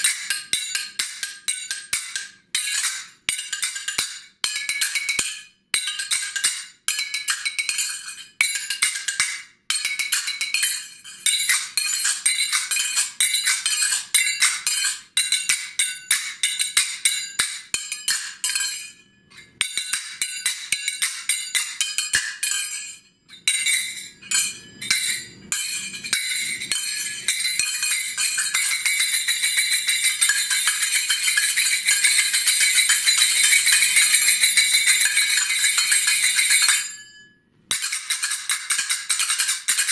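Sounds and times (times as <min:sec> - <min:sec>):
finger cymbals clinking: 0:00.0 - 0:39.9.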